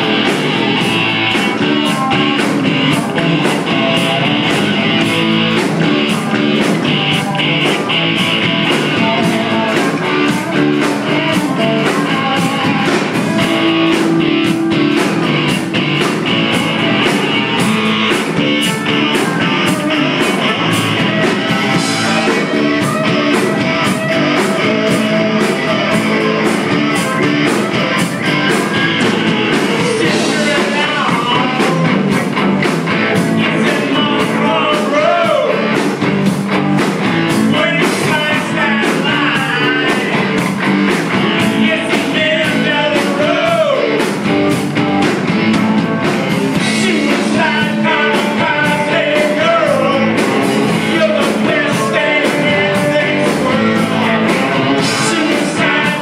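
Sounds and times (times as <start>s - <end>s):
person singing lead vocal: 0.0s - 15.8s, 16.4s - 36.0s, 37.2s - 44.4s, 46.3s - 56.0s
drums: 0.0s - 56.0s
electric guitars: 0.0s - 56.0s.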